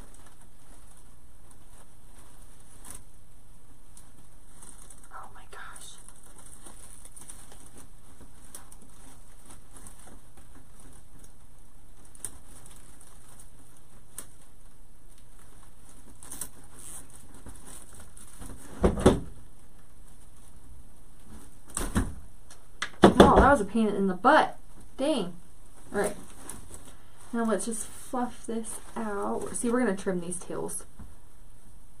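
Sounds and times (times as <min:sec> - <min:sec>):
rustling and crackling of twigs: 0:00.0 - 0:22.8, 0:24.6 - 0:31.8.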